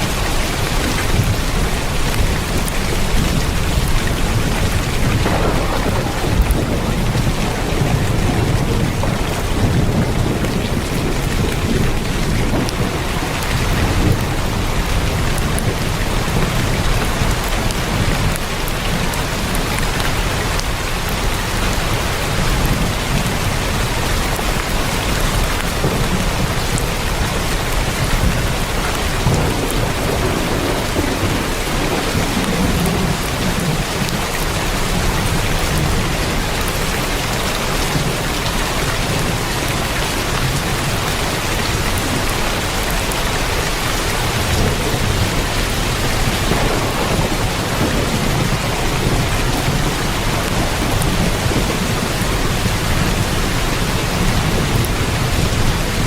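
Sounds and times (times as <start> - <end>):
heavy rain on a tin roof: 0.0 - 56.0.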